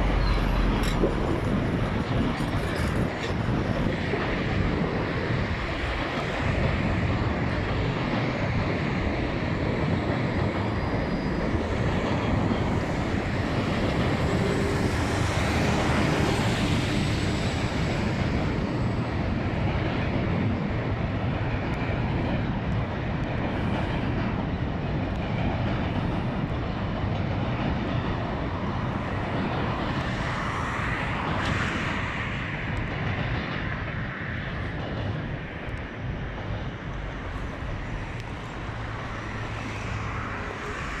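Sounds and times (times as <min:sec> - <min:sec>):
freight train rumbling over bridge: 0:00.0 - 0:41.0.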